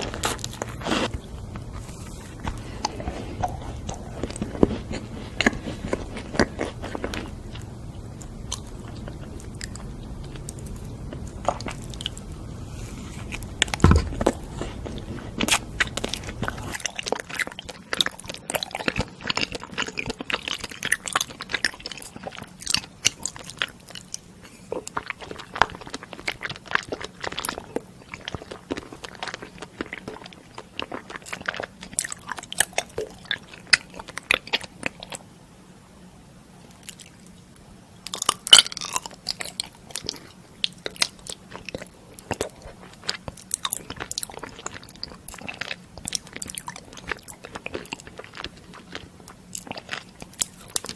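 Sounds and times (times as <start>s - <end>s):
person chewing crunchy food: 0.0s - 35.2s, 36.7s - 37.4s, 38.0s - 50.9s.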